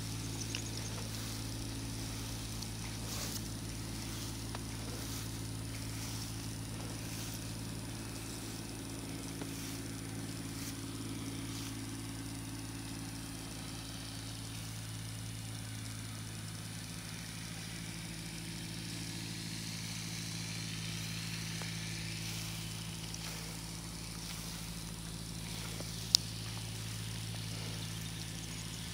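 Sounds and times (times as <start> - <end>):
engine idling hum: 0.0 - 28.9.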